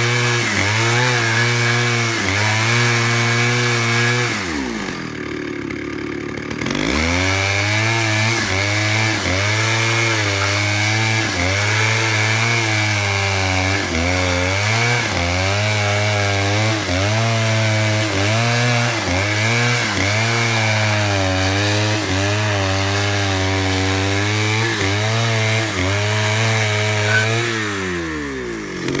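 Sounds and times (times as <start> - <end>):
chainsaw cutting wood: 0.0 - 29.0.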